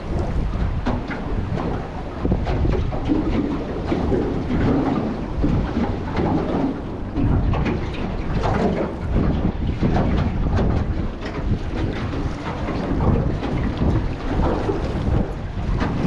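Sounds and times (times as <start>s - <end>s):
water splashes: 0.0s - 16.0s
wind buffeting microphone: 0.0s - 16.0s
knocks on boat: 0.1s - 16.0s.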